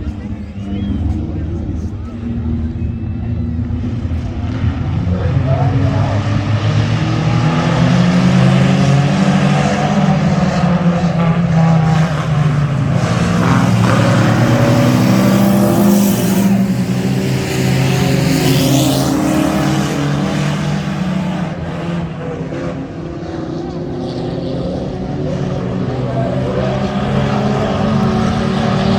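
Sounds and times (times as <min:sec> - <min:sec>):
race truck engines running hard: 0:00.0 - 0:28.9.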